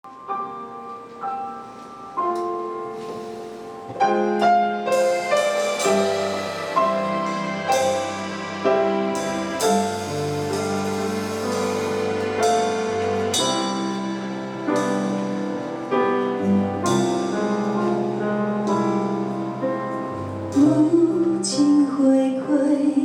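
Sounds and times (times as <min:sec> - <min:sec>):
piano and orchestral chords: 0:00.0 - 0:23.0.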